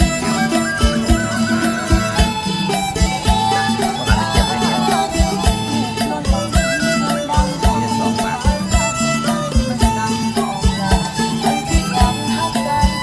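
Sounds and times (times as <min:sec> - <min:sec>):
folk-style tune: 0:00.0 - 0:13.0
steady drum beat: 0:00.0 - 0:13.0.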